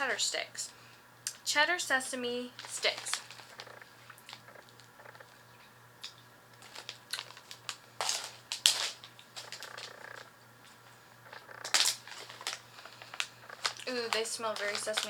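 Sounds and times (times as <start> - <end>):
plastic snack bag crinkling: 2.4 - 15.0.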